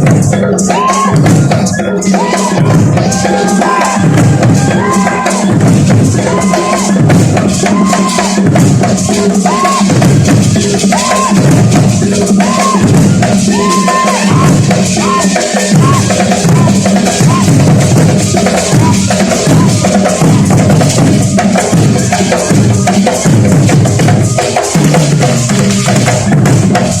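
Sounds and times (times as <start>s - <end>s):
big drums playing driving rhythm: 0.0s - 27.0s.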